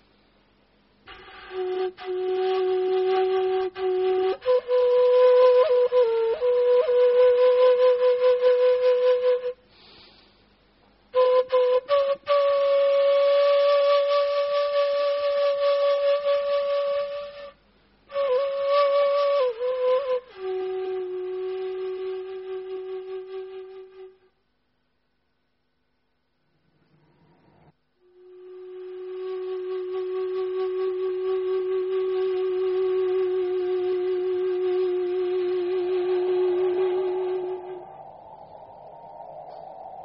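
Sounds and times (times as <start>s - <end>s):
flute long held notes: 1.1s - 10.2s, 11.1s - 24.4s, 28.0s - 40.0s.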